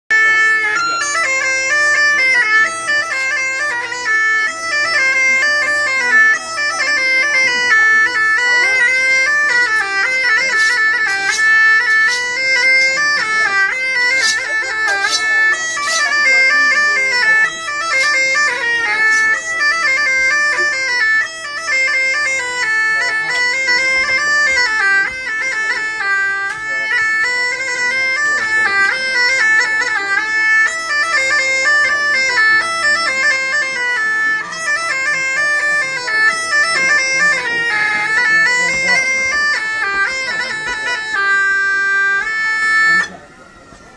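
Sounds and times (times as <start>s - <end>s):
bagpipe melody over drone: 0.1s - 43.9s.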